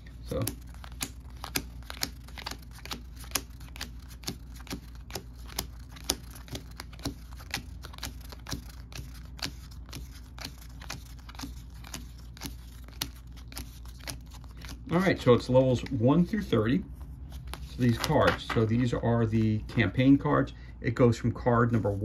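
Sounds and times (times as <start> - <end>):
cards being flicked through: 0.2 - 16.6, 17.3 - 19.6.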